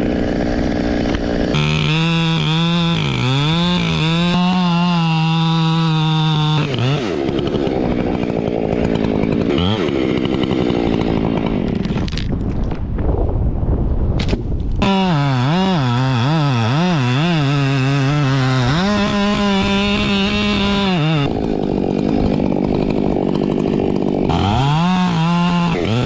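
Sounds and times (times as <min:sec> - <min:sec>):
chainsaw engine revving: 0:00.0 - 0:12.3, 0:14.8 - 0:26.0.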